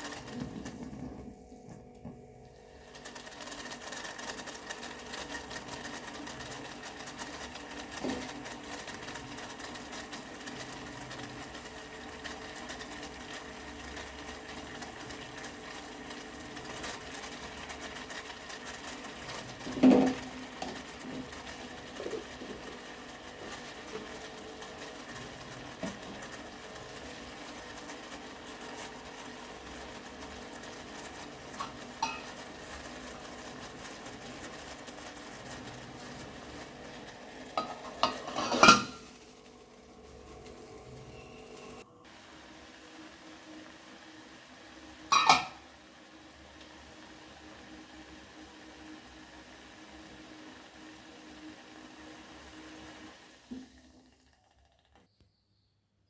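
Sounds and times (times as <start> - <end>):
tea bubbling in a pan: 2.8 - 55.1.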